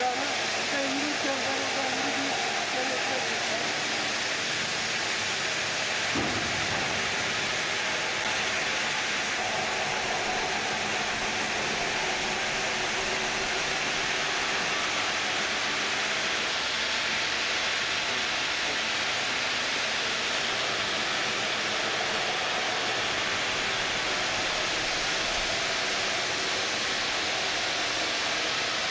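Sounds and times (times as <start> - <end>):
stone cutting machine hissing: 0.0 - 28.9.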